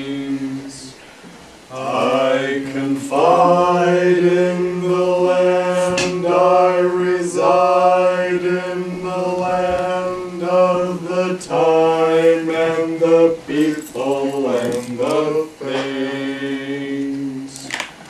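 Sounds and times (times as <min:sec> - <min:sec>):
man singing drone-like chant: 0:01.7 - 0:17.7.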